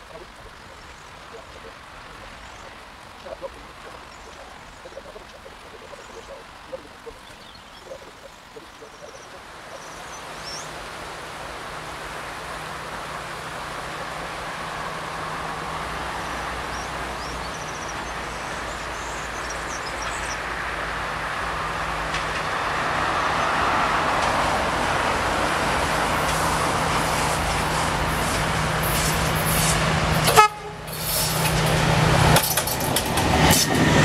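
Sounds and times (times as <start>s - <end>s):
locomotive engine drone: 0.0s - 34.0s.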